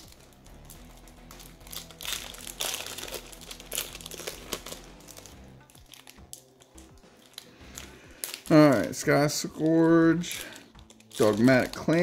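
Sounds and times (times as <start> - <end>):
cards rustling: 0.0 - 12.0
foil wrapper crinkling: 0.0 - 12.0.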